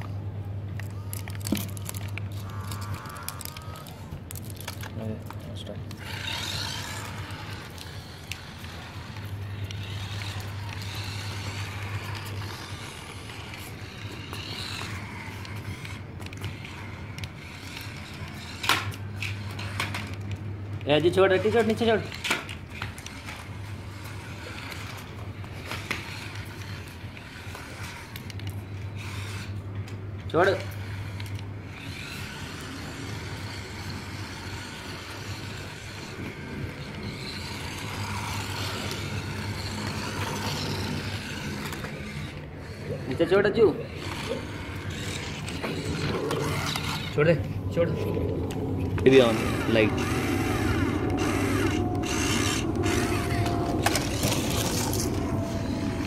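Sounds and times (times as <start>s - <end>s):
steady low hum: 0.0s - 56.0s
tyres rolling on concrete: 0.0s - 56.0s
toy car electric motor whirring: 0.8s - 47.4s, 48.1s - 56.0s.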